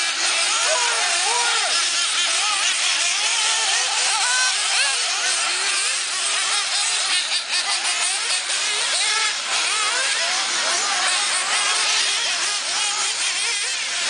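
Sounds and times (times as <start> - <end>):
rc car engines whining: 0.0 - 14.0.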